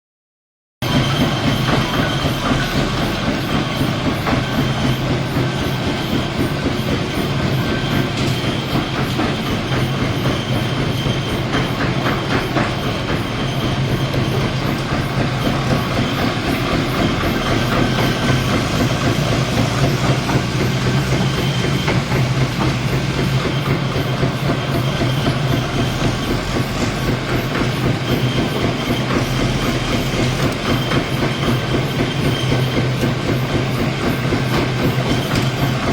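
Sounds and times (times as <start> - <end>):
fast mechanical clatter: 0.8 - 35.9.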